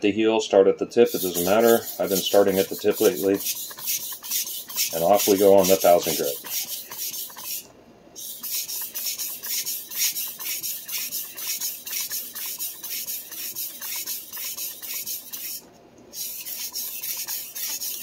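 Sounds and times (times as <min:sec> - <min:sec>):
knife scraping on whetstone: 0:01.1 - 0:07.6, 0:08.2 - 0:15.6, 0:16.2 - 0:18.0.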